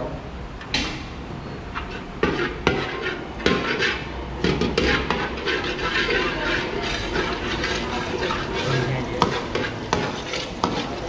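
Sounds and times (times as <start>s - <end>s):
metal utensils clattering on pans: 1.7s - 11.0s.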